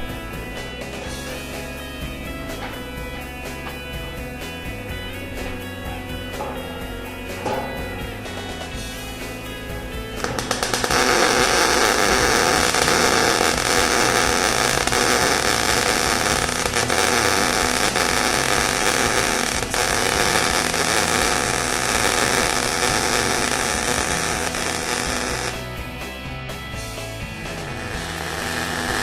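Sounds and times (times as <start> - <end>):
arc welder hissing: 0.0 - 25.7, 27.5 - 29.0.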